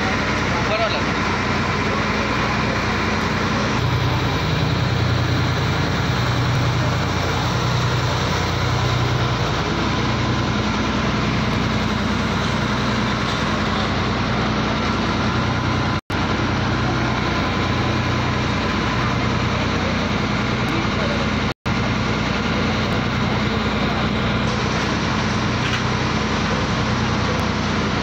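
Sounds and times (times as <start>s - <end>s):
constant rush of noise: 0.0s - 28.0s
ferry engine throbbing: 0.0s - 28.0s.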